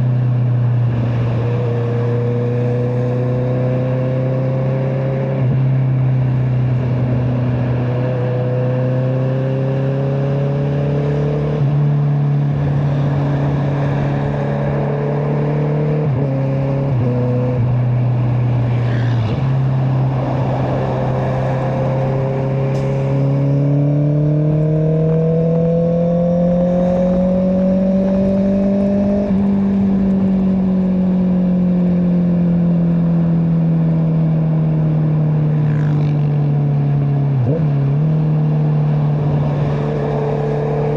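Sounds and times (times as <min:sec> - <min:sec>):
motorcycle engine on the road: 0:00.0 - 0:40.9.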